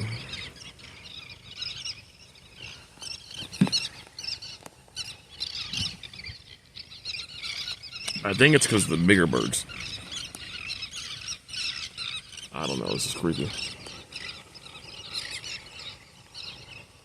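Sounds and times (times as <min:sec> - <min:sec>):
lower falling bird call: 0:00.0 - 0:17.0
seabirds calling: 0:00.0 - 0:17.0.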